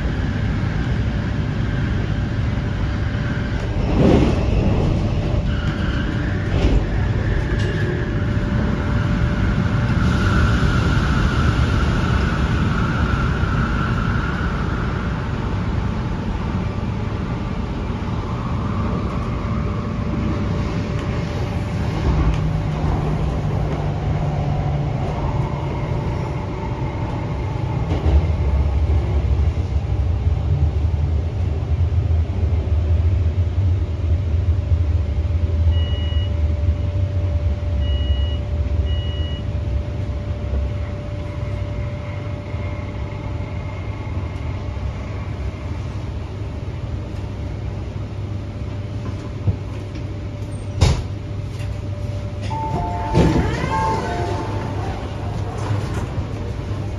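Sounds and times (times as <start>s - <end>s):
train wheel and track rumble: 0.0s - 56.9s.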